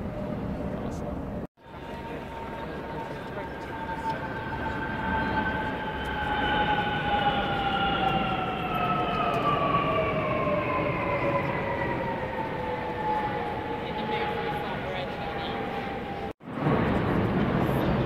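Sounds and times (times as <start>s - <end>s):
jet aircraft flying overhead: 0.0s - 18.0s.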